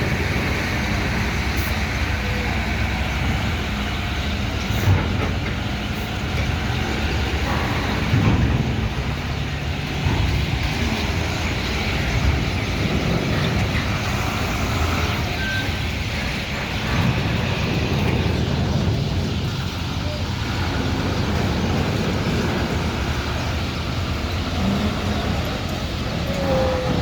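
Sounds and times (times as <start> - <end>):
diesel engine rumbling: 0.0 - 27.0
road traffic noise: 0.0 - 27.0.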